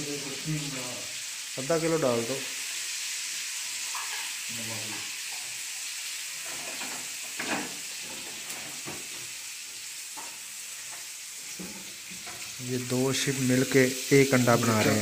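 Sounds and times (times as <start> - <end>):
food sizzling in a pan: 0.0 - 15.0
stirring in a pan: 2.4 - 15.0.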